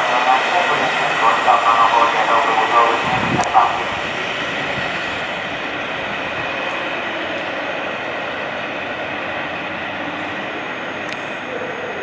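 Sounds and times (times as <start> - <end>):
train wheels rolling on track: 0.0 - 12.0.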